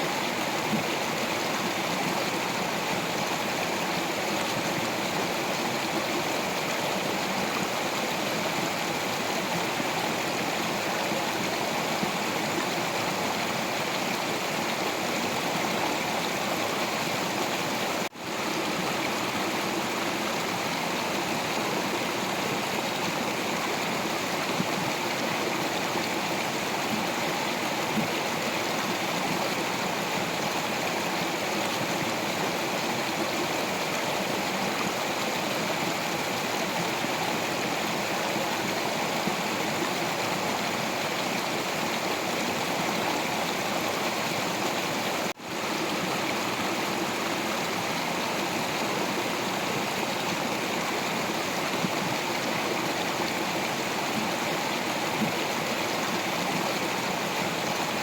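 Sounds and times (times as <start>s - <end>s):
stream water splashing over rocks: 0.0s - 58.0s.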